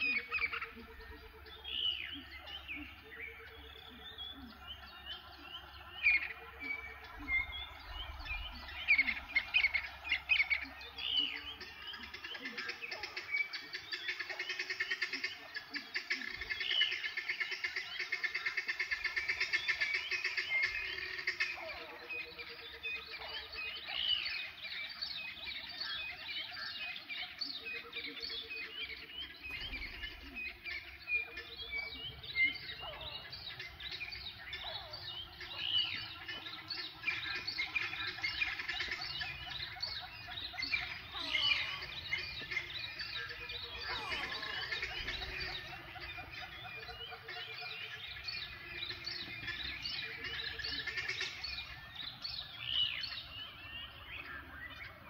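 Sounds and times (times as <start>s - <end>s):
birds chirping: 0.0s - 55.0s
low pulsed bird call: 0.0s - 55.0s.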